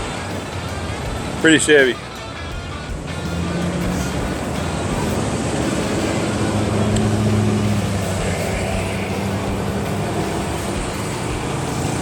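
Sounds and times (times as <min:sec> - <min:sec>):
car engine rumble: 0:00.0 - 0:12.0
road traffic: 0:00.0 - 0:12.0.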